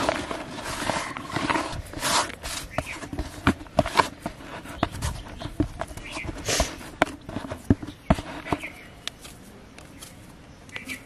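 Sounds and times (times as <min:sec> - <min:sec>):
dough scraping: 0:00.0 - 0:10.2.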